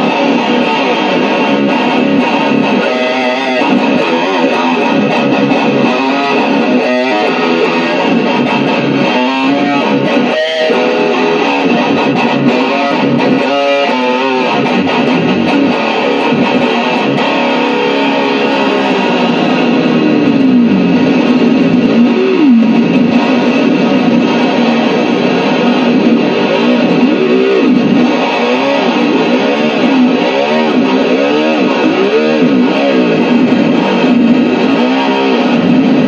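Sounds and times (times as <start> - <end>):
electric guitar riffing: 0.0 - 36.0.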